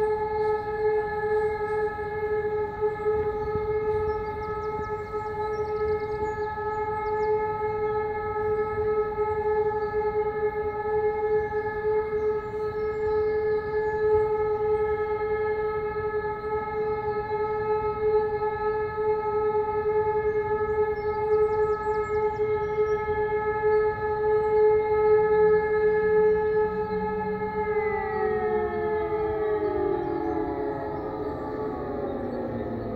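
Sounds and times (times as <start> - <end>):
air-raid siren steady tone: 0.0 - 32.9.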